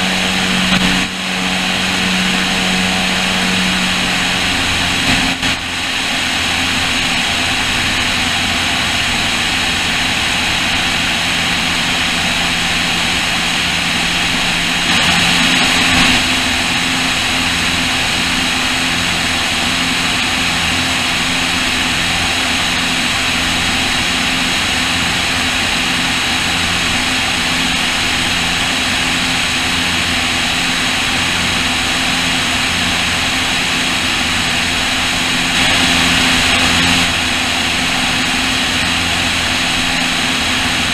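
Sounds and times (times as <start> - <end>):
piston engines and propellers droning: 0.0 - 40.9
rushing airflow: 0.0 - 40.9.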